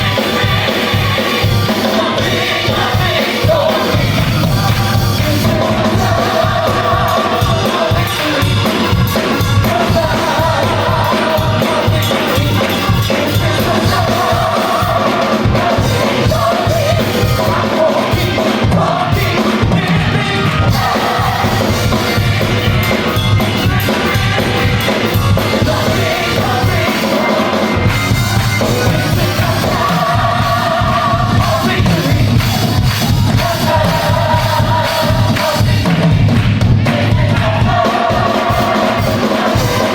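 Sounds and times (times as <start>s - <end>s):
band with drums and bass: 0.0s - 39.9s
gospel choir singing: 0.0s - 39.9s.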